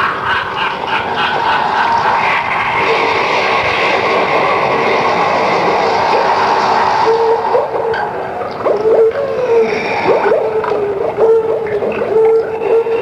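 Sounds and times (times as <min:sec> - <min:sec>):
spooky sound effects: 0:00.0 - 0:13.0.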